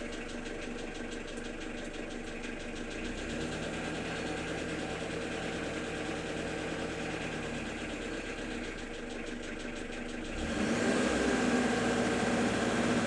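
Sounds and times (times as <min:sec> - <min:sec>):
car engine knocking: 0:00.0 - 0:13.0.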